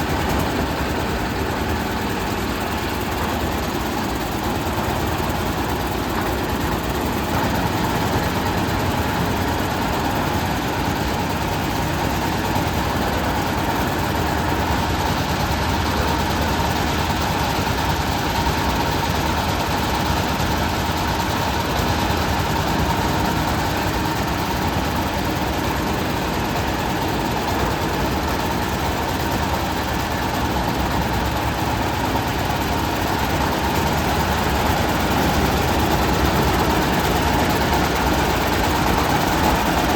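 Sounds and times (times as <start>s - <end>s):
concrete mixer engine drone: 0.0s - 39.9s.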